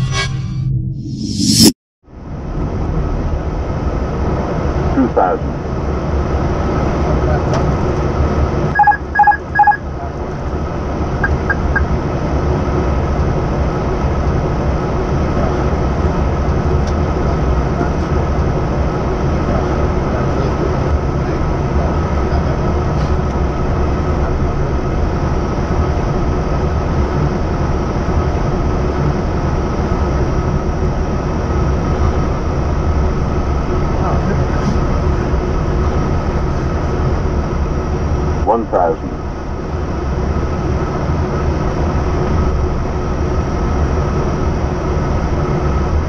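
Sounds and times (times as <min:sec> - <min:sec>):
low rumble of airflow and engines: 0:00.7 - 0:46.0.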